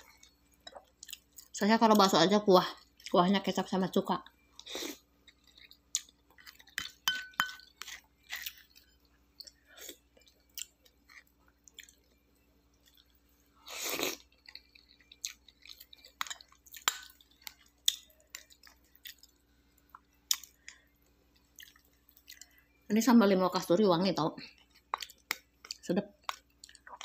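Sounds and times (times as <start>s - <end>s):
person chewing food: 0.0s - 1.6s, 4.4s - 22.8s, 24.5s - 27.0s.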